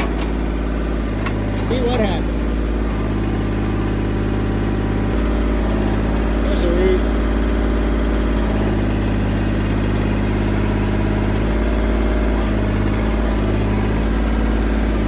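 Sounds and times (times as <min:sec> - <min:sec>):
tractor engine under hydraulic load: 0:00.0 - 0:15.0.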